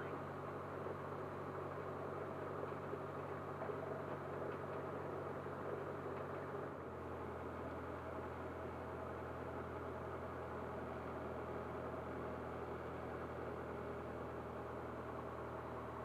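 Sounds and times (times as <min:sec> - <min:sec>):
small plane engine running: 0:00.0 - 0:16.0.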